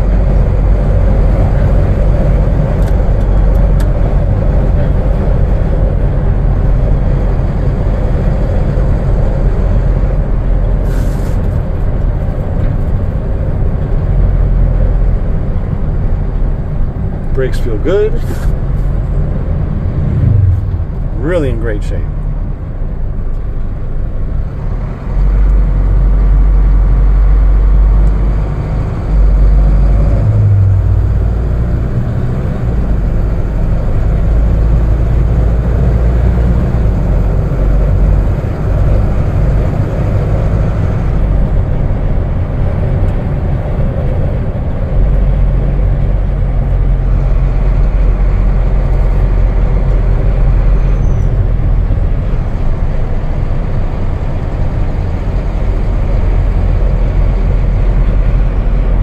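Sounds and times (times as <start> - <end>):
diesel engine rumble: 0.0 - 59.0
tyres on road: 0.0 - 59.0.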